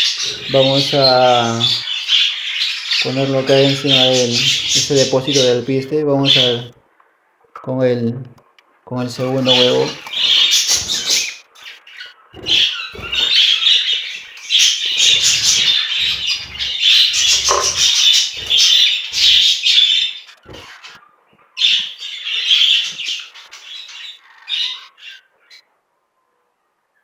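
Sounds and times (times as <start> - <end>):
budgerigars squawking and chattering: 0.0 - 6.8, 9.0 - 25.6.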